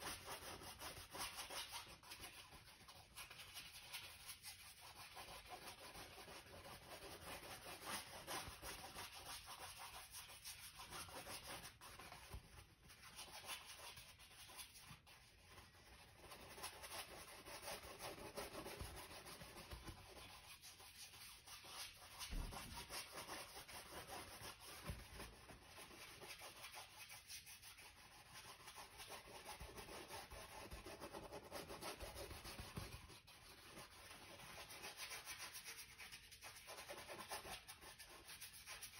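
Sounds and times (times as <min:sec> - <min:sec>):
paintbrush scrubbing on canvas: 0:00.0 - 0:38.9.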